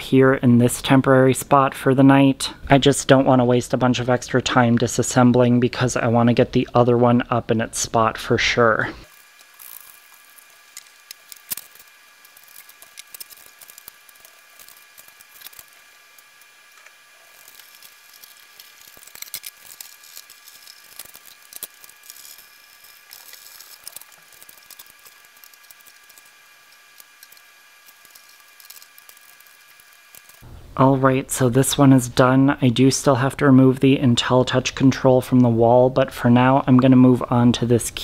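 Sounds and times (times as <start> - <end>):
faint steady whine: 0.0 - 38.0.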